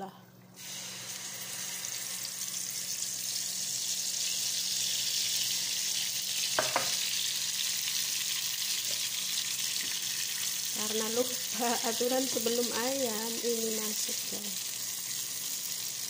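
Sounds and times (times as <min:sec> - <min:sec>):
paste sizzling in hot oil: 0:00.6 - 0:16.0.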